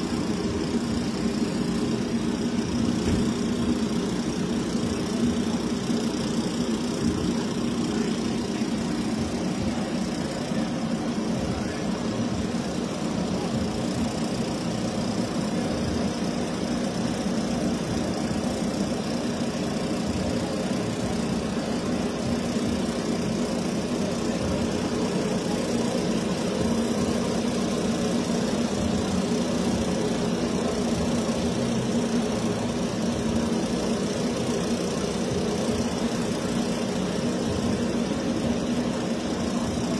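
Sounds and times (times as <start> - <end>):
race car engines idling: 0.0 - 39.9.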